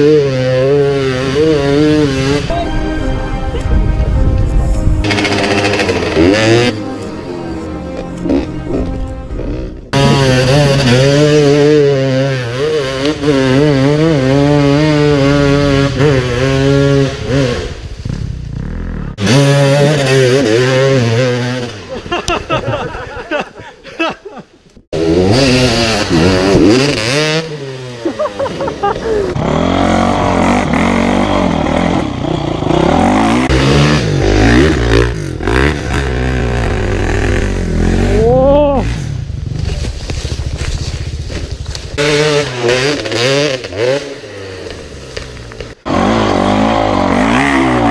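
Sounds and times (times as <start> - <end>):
dirt bike engine revving: 0.0 - 2.5, 5.0 - 22.1, 24.9 - 47.9.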